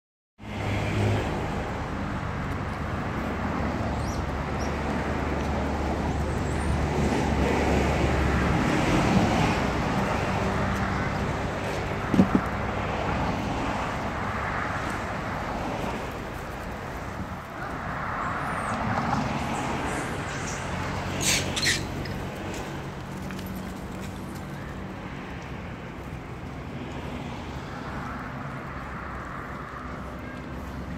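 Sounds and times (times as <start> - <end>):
road traffic noise: 0.4 - 30.9
vehicle passing: 0.4 - 30.9.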